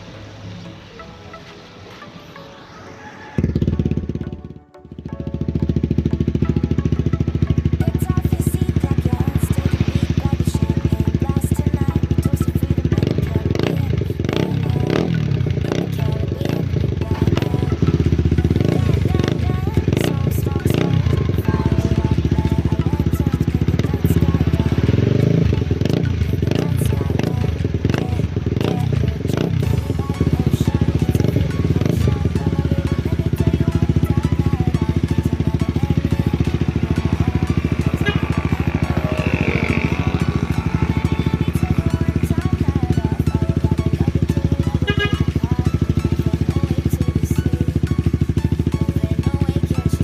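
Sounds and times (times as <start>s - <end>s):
faint music: 0.0s - 50.0s
motorcycle engine revving: 2.5s - 50.0s.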